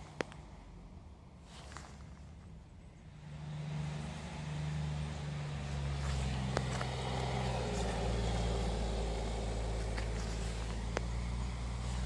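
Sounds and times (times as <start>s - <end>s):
low engine drone: 2.2s - 12.0s.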